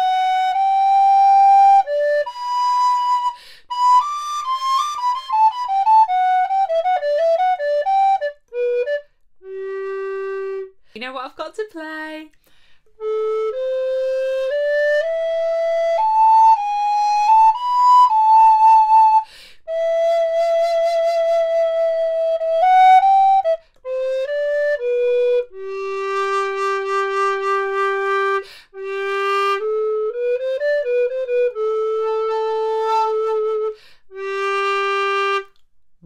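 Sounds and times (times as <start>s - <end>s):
alto recorder melody: 0.0s - 10.9s, 12.9s - 35.6s.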